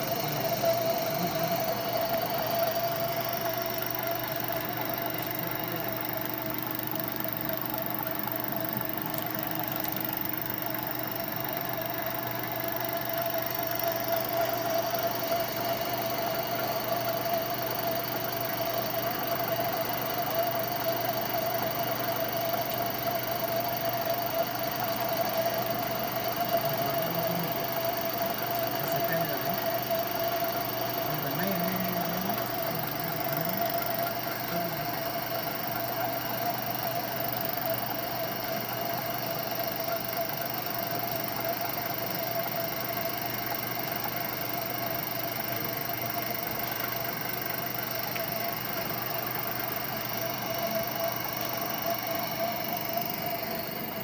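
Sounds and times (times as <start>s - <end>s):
lathe humming: 0.0s - 54.0s
steady whining tone: 0.0s - 54.0s.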